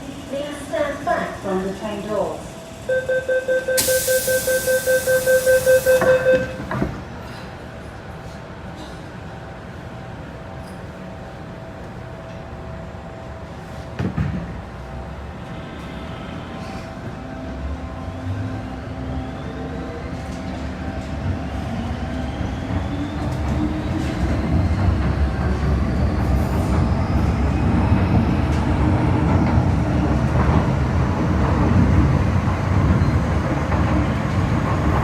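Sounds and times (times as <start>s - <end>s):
train running noise: 0.0s - 35.0s.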